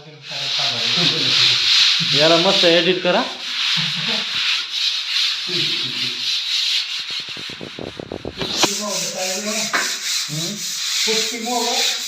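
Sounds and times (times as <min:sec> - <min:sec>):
sanding wall putty: 0:00.3 - 0:12.0.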